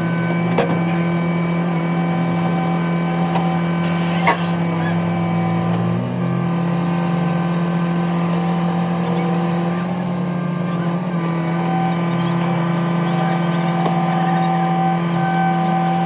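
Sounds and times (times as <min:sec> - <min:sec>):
engine humming steadily: 0:00.0 - 0:16.0.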